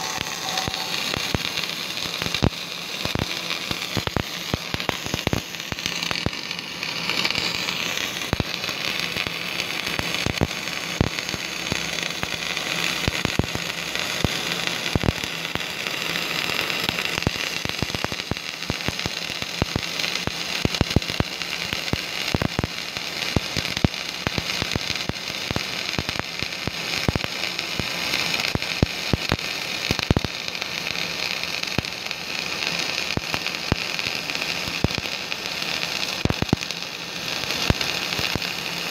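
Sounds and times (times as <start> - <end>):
spatter pops: 0.0 - 15.6, 16.8 - 38.9
welding arc crackling sizzle: 0.0 - 38.9.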